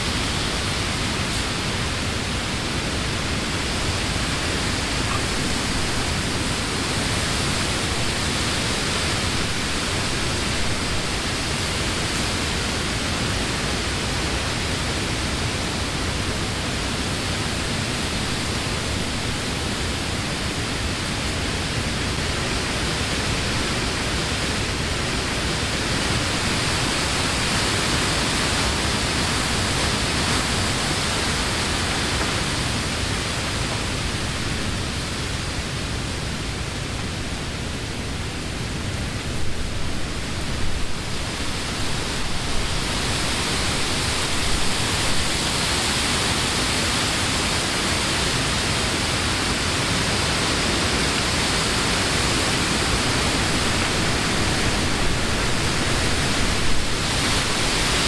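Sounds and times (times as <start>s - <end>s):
wind rustling leafy trees: 0.0s - 58.0s.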